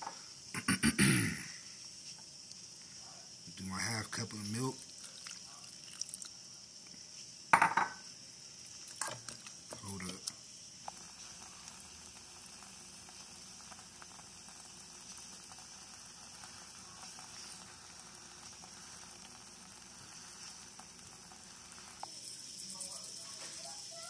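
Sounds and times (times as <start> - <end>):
food sizzling on stove: 0.0 - 24.0.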